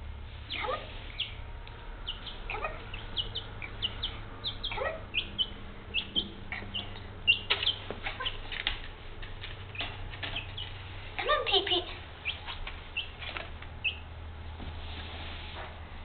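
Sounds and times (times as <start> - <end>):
chick peeping: 0.5 - 8.8, 9.4 - 14.1.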